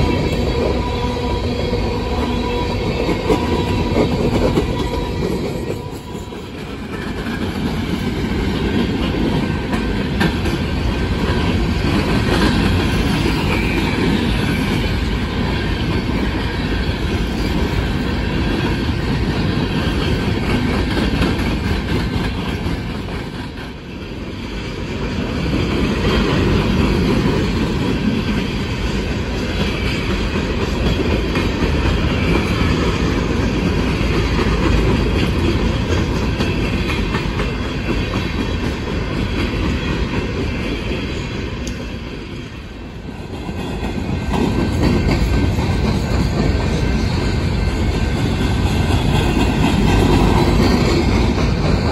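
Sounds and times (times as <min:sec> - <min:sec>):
freight train wheels rumbling on rails: 0:00.0 - 0:51.9.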